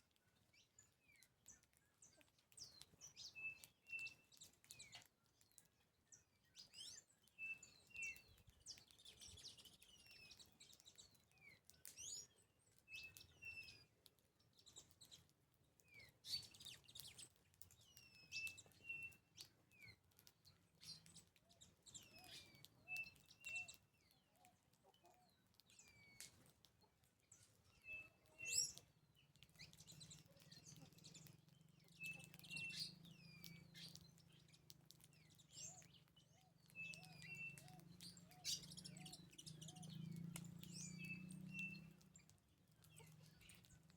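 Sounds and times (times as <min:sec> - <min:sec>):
wild birds chirping: 0:00.0 - 0:43.9.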